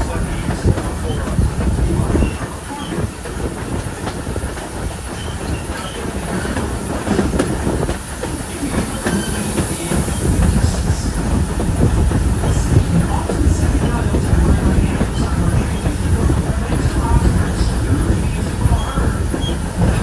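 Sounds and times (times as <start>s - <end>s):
train rumbling on track: 0.0s - 20.0s
wheels clacking over rail joints: 0.0s - 20.0s.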